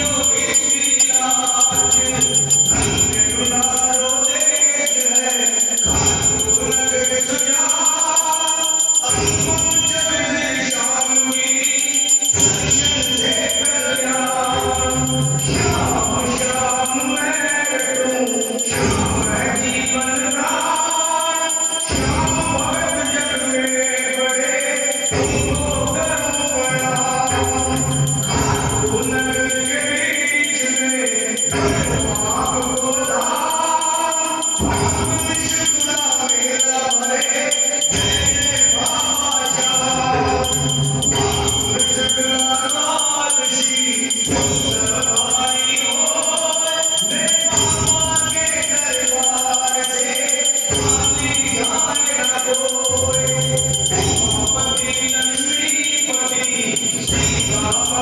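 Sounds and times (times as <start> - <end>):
devotional singing over music: 0.0 - 58.0.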